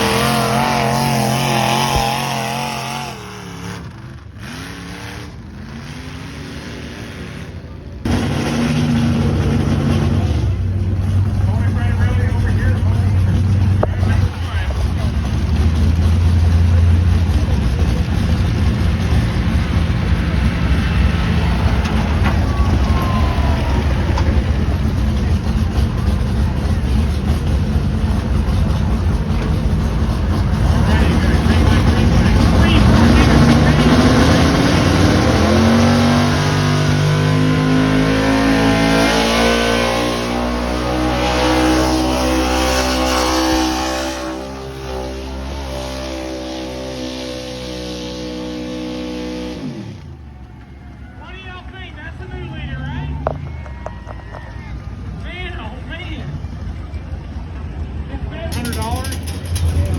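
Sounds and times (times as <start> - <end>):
heavy vehicle engine rumbling: 0.0 - 59.9.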